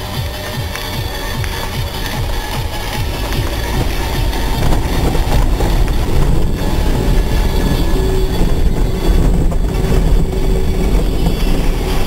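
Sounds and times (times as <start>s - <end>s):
steady vehicle hum: 0.0s - 12.0s
tyres rumbling over pebbles: 0.0s - 12.0s.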